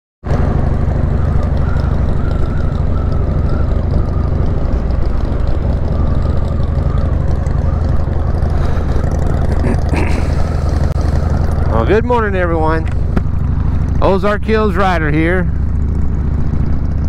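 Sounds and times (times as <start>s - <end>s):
motorcycle engine running: 0.2s - 17.0s
road and wind noise: 0.2s - 17.0s.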